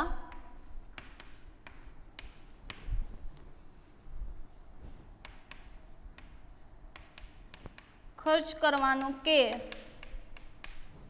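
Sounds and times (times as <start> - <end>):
chalk scratching on chalkboard: 0.3 - 11.0.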